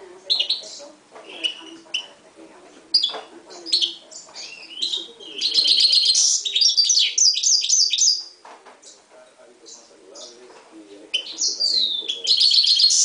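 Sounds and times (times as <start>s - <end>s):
bird singing chirps and trills: 0.2s - 2.2s, 2.9s - 10.5s, 11.1s - 13.0s.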